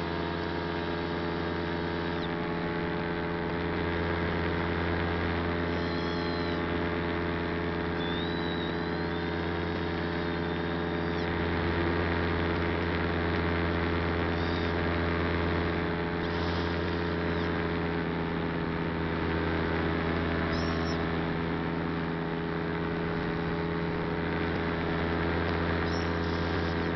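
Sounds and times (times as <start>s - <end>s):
aircraft propeller drone: 0.0s - 26.9s.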